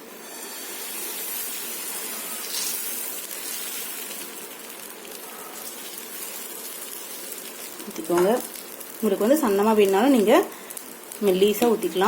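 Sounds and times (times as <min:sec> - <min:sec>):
sizzling on a hot griddle: 0:00.0 - 0:12.0.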